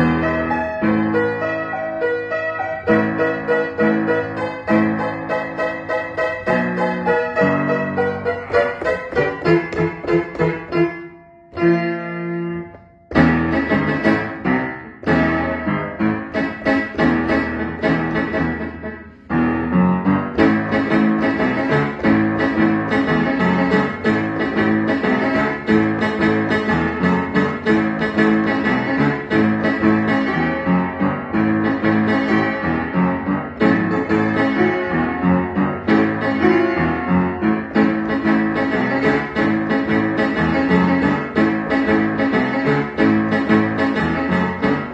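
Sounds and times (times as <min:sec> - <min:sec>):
upright piano playing: 0:00.0 - 0:44.9.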